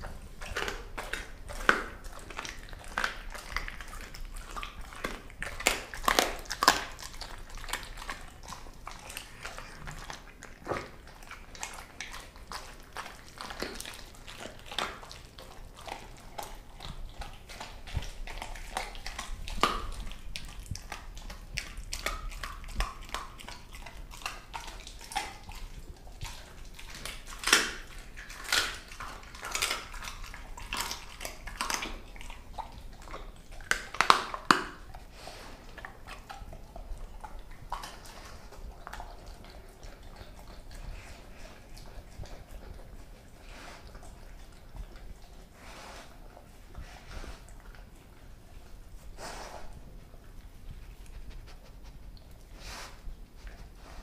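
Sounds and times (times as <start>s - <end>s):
dog crunching and chewing bones: 0.0s - 54.0s.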